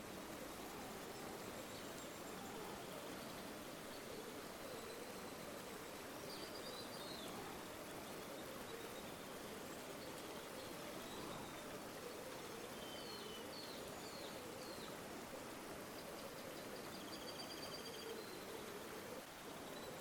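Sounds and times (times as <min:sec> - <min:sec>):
river water gurgling: 0:00.0 - 0:20.0.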